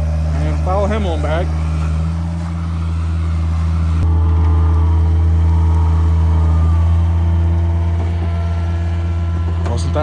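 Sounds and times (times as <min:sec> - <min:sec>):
truck engine droning: 0:00.0 - 0:10.0.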